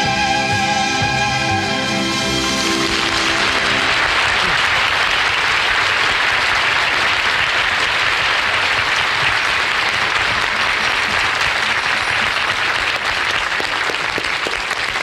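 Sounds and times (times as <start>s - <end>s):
audience applauding: 2.3s - 15.0s.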